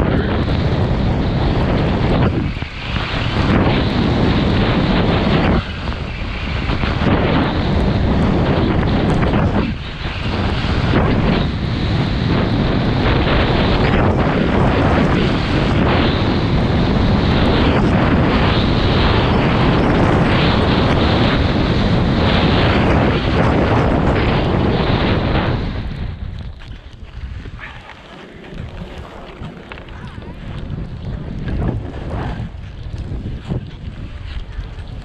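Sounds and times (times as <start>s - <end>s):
skis scraping over snow: 0.0s - 35.0s
wind rushing over microphone: 0.0s - 35.0s.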